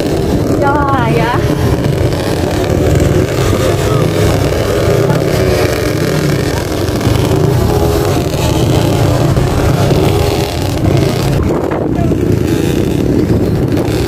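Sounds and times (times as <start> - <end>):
dirt bike engines running: 0.0 - 14.0.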